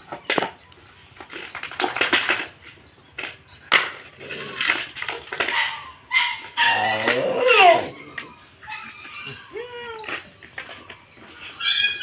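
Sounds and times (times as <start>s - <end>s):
plastic bowls clattering on tiles: 1.2s - 8.3s, 8.9s - 11.4s.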